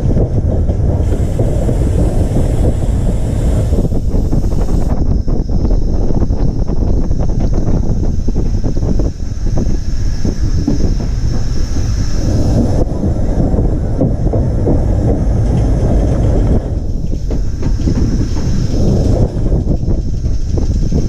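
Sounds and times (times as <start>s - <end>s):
steam locomotive rumbling: 0.0s - 21.0s
wheels knocking on rails: 0.0s - 21.0s.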